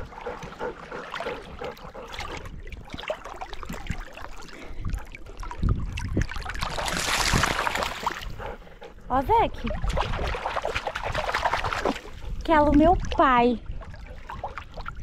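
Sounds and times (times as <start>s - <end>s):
dogs splashing through water: 0.0s - 15.0s
wind rumbling on microphone: 0.0s - 15.0s.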